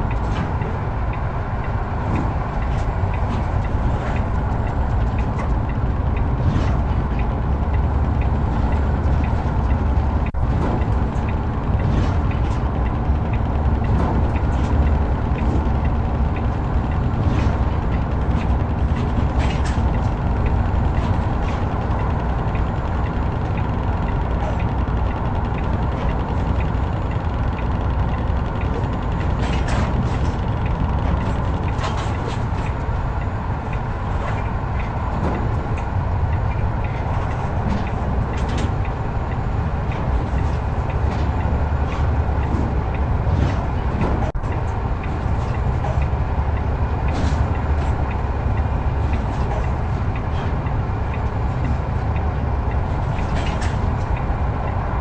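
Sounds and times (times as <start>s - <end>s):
diesel truck engine: 0.0s - 55.0s
road noise: 0.0s - 55.0s.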